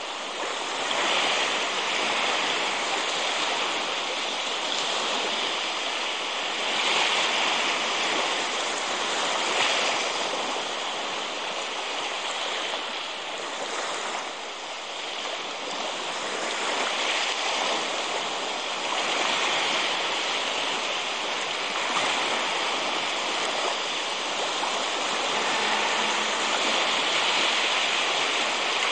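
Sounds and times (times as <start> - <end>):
rushing water: 0.0 - 28.9.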